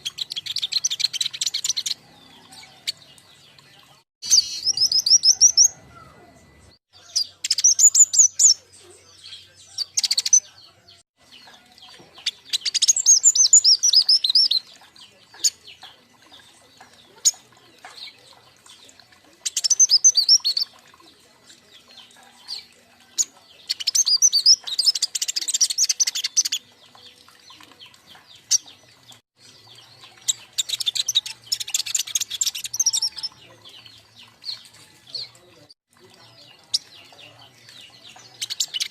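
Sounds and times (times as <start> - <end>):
birds chirping in high trills: 0.0 - 35.6.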